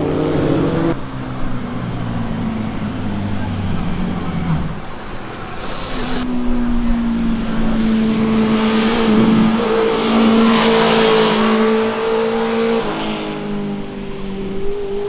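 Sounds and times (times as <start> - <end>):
motorcycle engine passing: 2.0 - 15.0.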